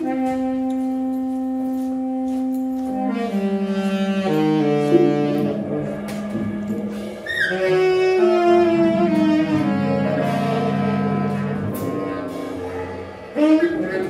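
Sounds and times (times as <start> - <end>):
bass clarinet: 0.0 - 14.0
electric guitar: 0.0 - 14.0
saxophone: 0.0 - 14.0.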